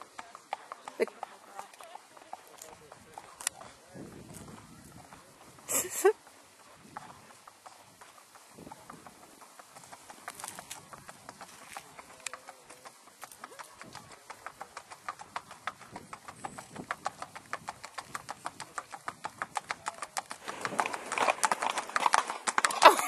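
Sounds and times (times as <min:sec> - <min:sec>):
hoofbeats on paved road: 0:00.0 - 0:23.0.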